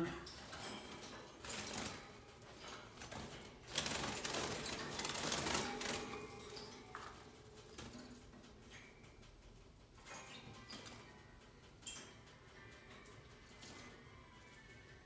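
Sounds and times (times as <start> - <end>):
canaries fluttering wings in cage: 0.2 - 8.8, 10.0 - 11.2, 11.8 - 14.8.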